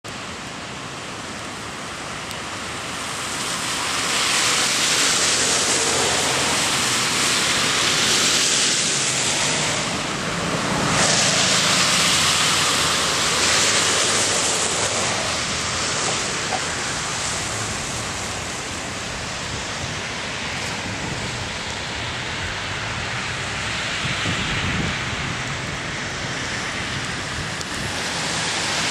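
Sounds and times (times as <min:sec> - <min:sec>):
rushing floodwater: 0:00.0 - 0:28.9.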